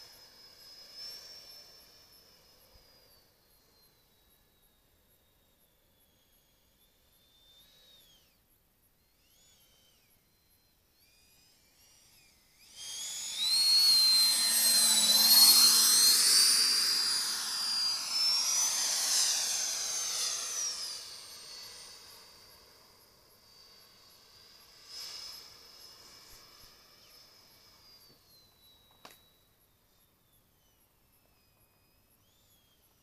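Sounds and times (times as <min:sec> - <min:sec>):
model jet engine whine: 0:00.0 - 0:33.0.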